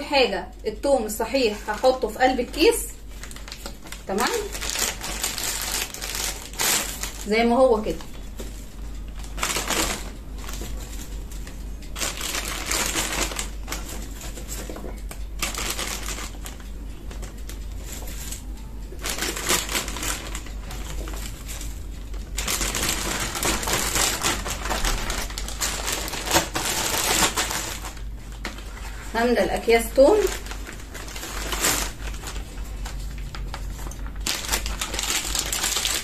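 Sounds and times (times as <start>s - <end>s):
plastic bag crinkling: 1.0s - 36.0s.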